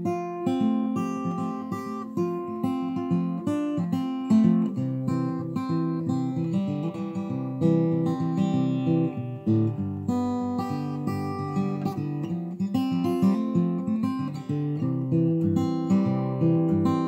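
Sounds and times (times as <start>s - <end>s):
guitar riff: 0.0s - 17.0s.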